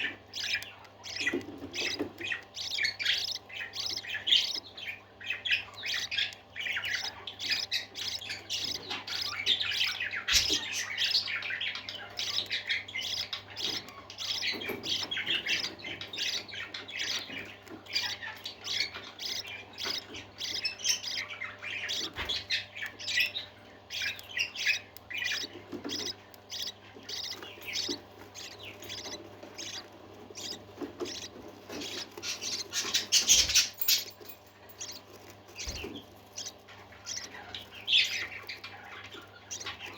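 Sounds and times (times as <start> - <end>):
parakeets chirping and chattering: 0.0 - 39.9.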